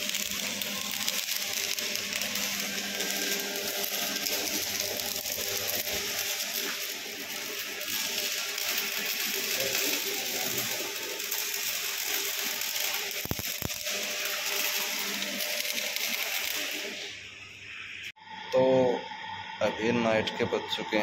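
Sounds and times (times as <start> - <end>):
welding arc crackling hiss: 0.0 - 19.2.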